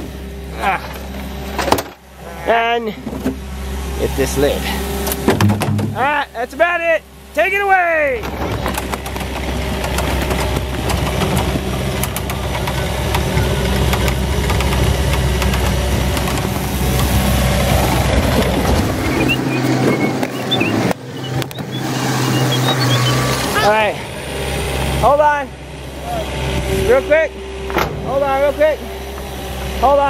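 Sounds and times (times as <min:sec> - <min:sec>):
track loader diesel engine running: 0:00.0 - 0:30.0.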